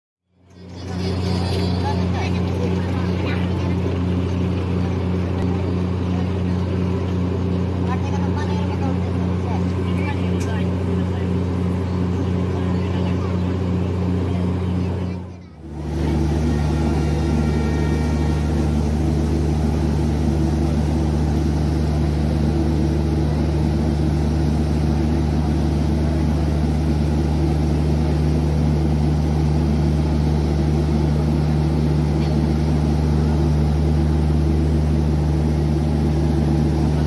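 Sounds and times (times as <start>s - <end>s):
train diesel engine idling: 0.3s - 37.0s.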